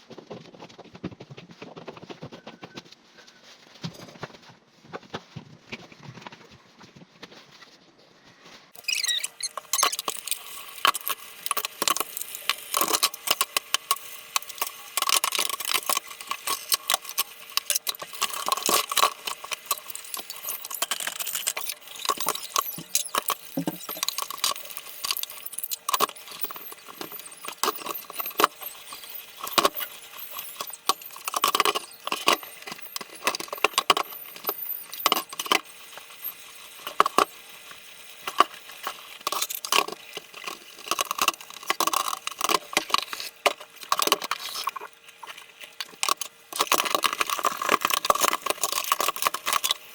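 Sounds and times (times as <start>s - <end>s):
containers clinking and rattling: 8.8s - 49.9s.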